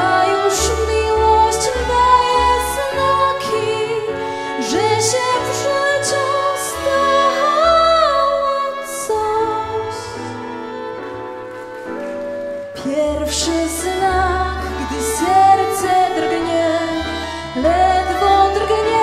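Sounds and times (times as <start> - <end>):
small dance band playing tango: 0.0 - 19.0.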